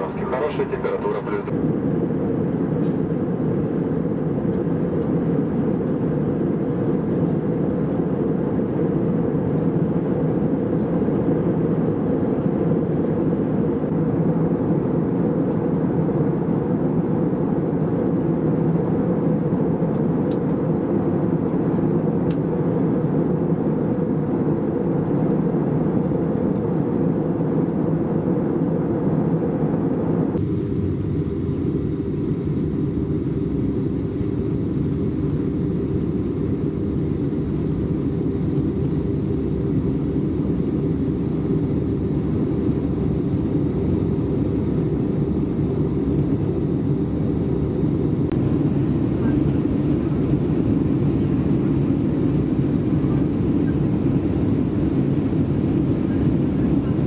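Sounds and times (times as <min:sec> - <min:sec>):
airplane cabin engine roar: 0:00.0 - 0:57.0.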